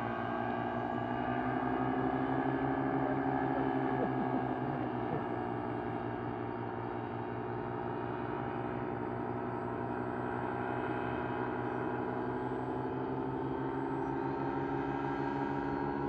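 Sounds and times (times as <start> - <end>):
paramotor engine droning: 0.0 - 16.0.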